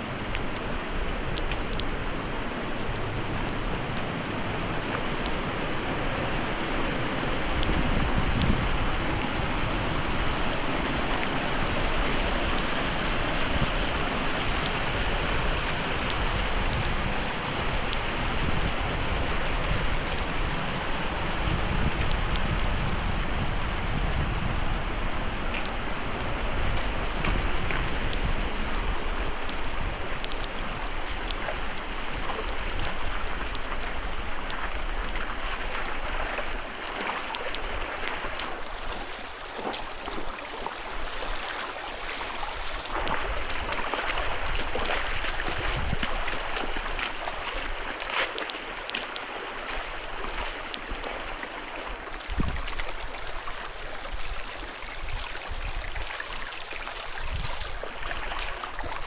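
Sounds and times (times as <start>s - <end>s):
water splashing and gurgling: 0.0s - 23.2s, 25.4s - 59.0s.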